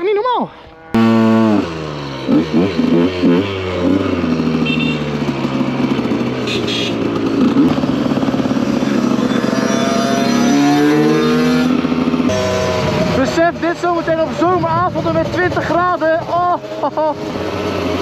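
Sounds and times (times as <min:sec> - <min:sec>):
two-stroke motorcycle engine revving: 0:00.7 - 0:18.0.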